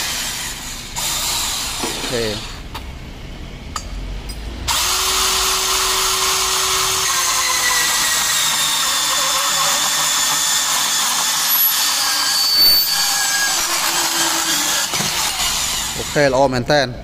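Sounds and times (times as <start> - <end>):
band saw cutting steel tube: 0.0 - 2.6, 4.7 - 16.3.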